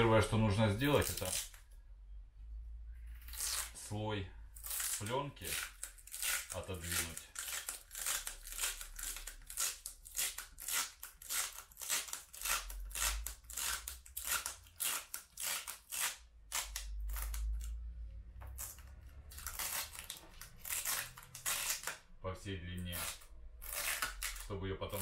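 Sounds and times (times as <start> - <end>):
plastic film peeling with crackling: 0.8 - 1.7, 3.1 - 3.9, 4.6 - 17.8, 18.5 - 22.1, 22.8 - 25.0.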